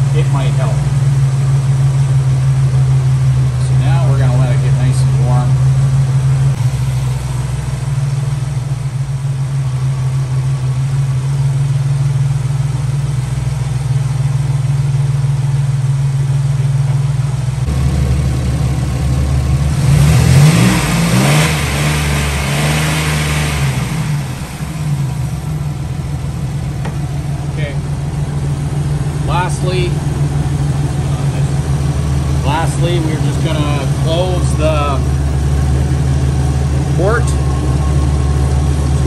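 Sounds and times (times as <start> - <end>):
van engine idling: 0.0 - 39.0.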